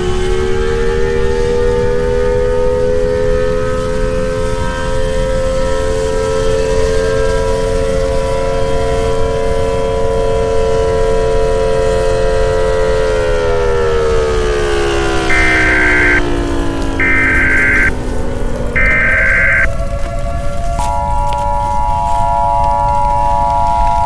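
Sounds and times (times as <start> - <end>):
civil defense siren: 0.0 - 24.0.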